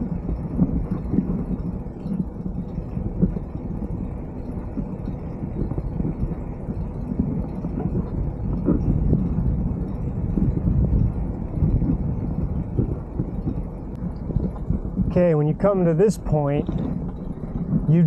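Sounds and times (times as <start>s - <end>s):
bicycle tyre and road noise: 0.0s - 18.0s
wind buffeting microphone: 0.0s - 18.0s.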